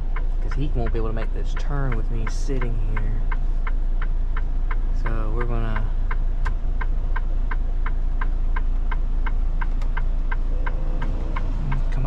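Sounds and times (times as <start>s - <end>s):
diesel engine idling: 0.0s - 12.0s
turn signal ticking: 0.0s - 12.0s.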